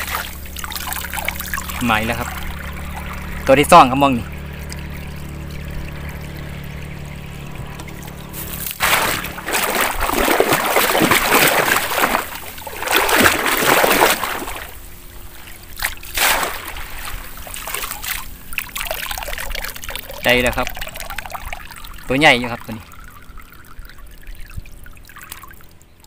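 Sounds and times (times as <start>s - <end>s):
muddy water splashing and sloshing: 0.0s - 26.0s.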